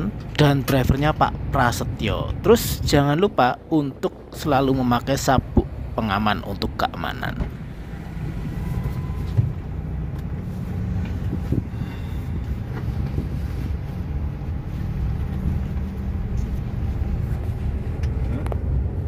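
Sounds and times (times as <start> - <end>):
van engine and tyres rumbling: 0.0 - 19.0.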